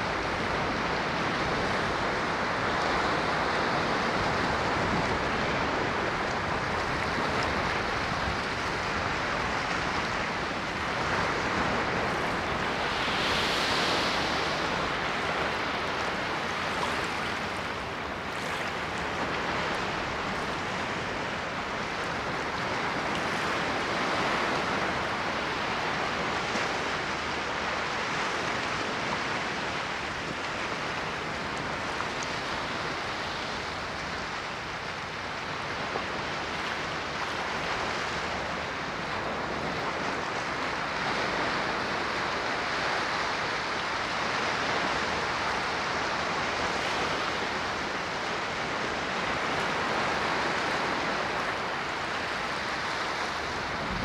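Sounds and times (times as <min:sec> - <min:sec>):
ocean waves on shore: 0:00.0 - 0:54.0.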